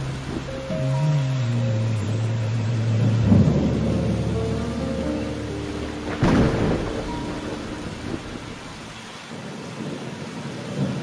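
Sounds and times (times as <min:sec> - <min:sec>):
steady rain: 0:00.0 - 0:11.0
thunderclap rumbling: 0:02.1 - 0:11.0.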